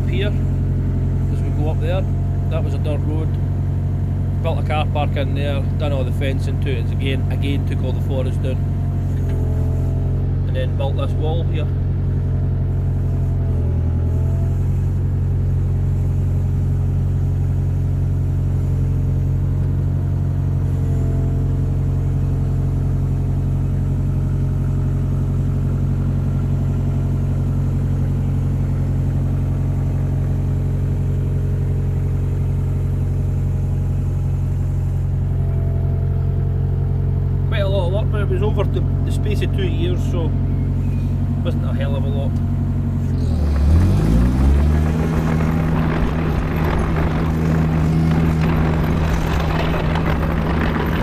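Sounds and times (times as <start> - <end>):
excavator diesel engine drone: 0.0 - 51.0.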